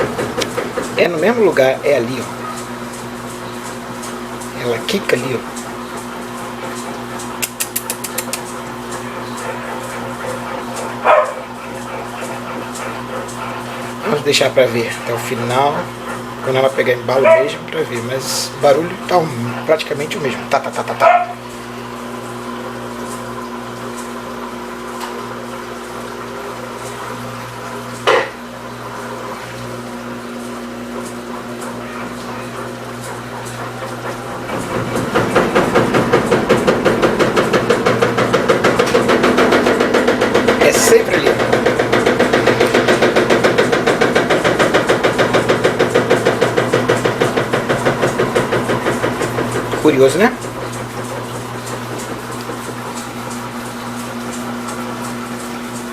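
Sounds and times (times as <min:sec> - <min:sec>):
washing machine spin hum: 0:00.0 - 0:55.9.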